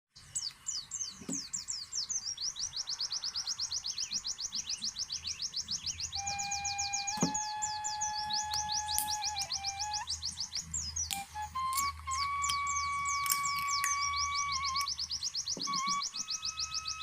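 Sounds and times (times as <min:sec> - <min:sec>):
bird trilling rapid high chirps: 0:00.2 - 0:17.0.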